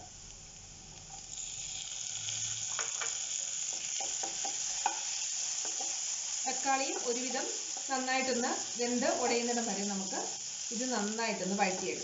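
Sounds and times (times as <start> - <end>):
onions and tomato sizzling in pan: 0.0 - 12.0.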